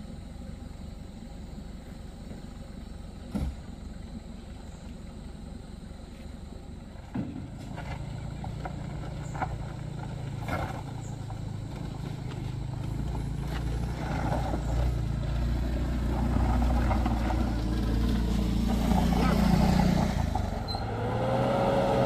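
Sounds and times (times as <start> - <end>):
pickup truck engine humming: 0.0 - 22.0
scooter engine climbing: 1.8 - 21.3.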